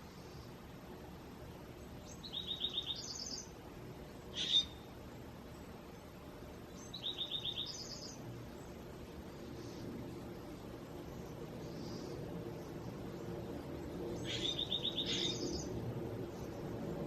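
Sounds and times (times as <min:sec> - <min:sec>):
songbird singing: 0:01.4 - 0:17.0.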